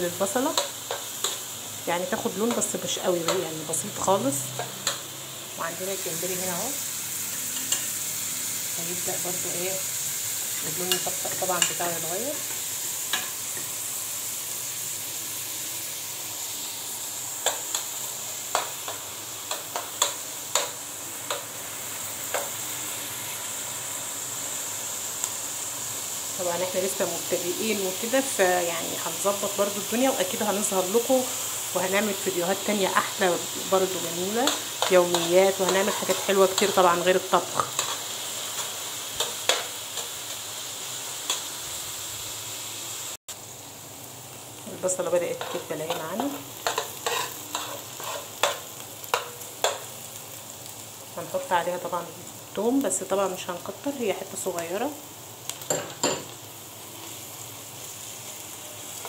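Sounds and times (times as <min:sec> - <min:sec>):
onion sizzling in oil: 0:00.0 - 0:59.0.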